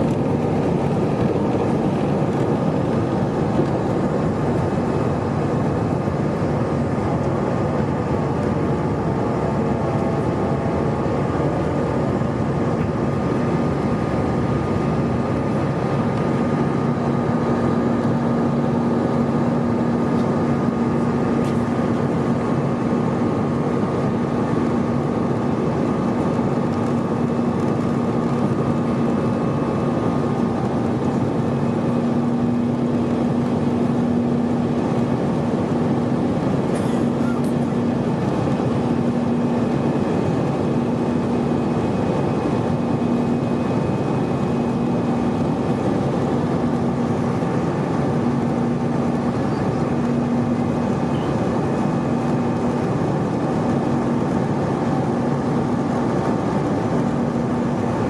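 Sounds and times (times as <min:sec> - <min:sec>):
loud steady machine noise: 0:00.0 - 0:58.0
steady low hum: 0:00.0 - 0:58.0.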